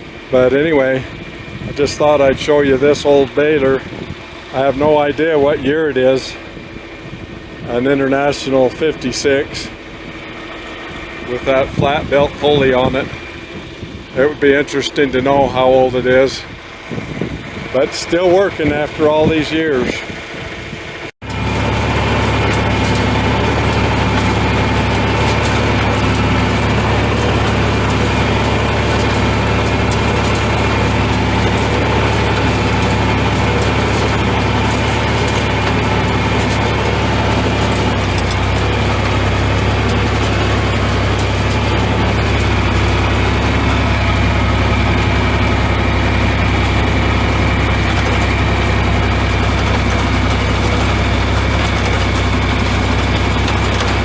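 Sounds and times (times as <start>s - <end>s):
heavy engine running steadily: 0.0s - 54.0s.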